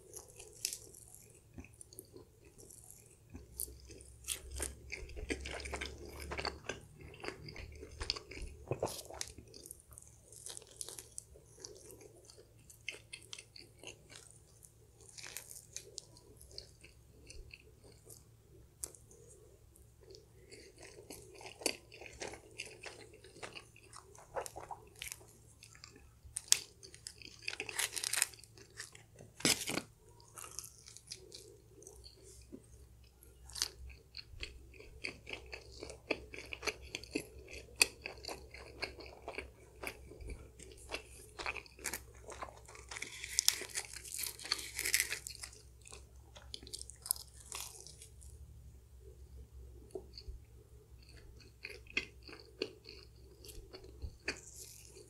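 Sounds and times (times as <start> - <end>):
chewing and biting pizza: 0.0 - 48.3, 49.7 - 55.0.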